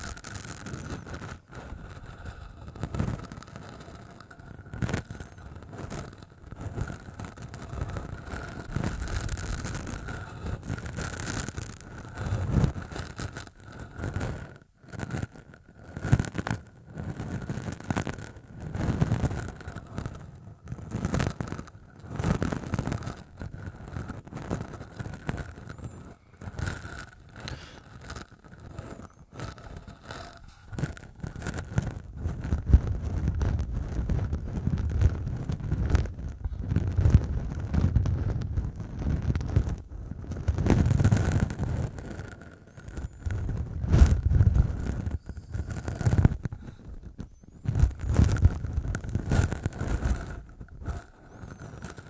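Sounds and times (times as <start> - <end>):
stubble scraping on microphone: 0.0 - 52.0.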